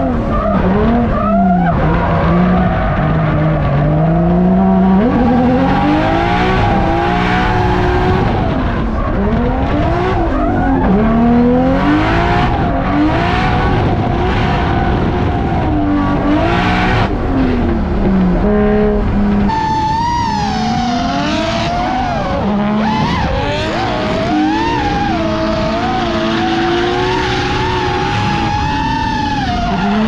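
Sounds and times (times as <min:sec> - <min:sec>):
tyres squealing and skidding: 0:00.0 - 0:13.4, 0:19.3 - 0:30.0
car engine revving: 0:00.0 - 0:30.0.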